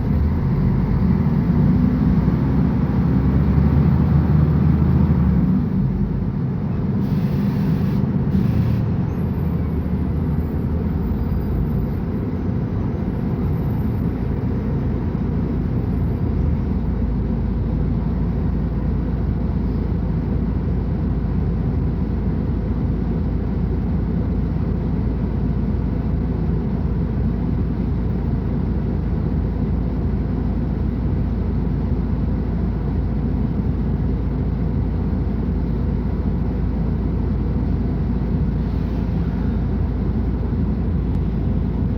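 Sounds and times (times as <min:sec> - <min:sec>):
bus diesel engine droning: 0:00.0 - 0:41.9.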